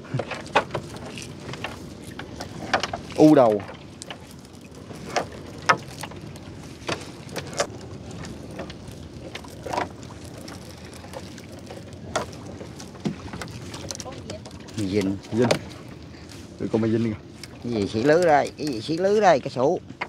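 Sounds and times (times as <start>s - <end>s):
short splashes and knocks: 0.0s - 19.0s
steady low water wash: 0.0s - 20.0s.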